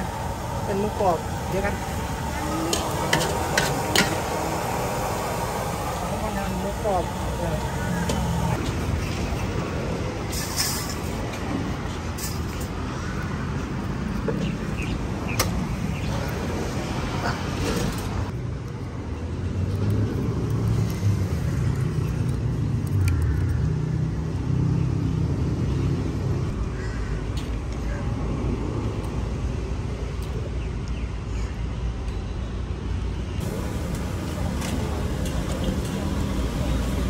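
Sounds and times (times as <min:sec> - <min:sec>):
low traffic rumble: 0:00.0 - 0:37.0.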